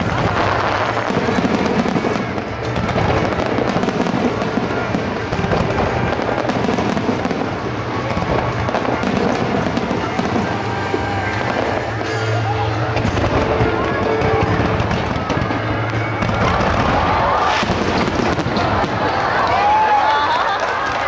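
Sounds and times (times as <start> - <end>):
fireworks bursts and crackling: 0.0 - 21.0
music: 0.0 - 21.0.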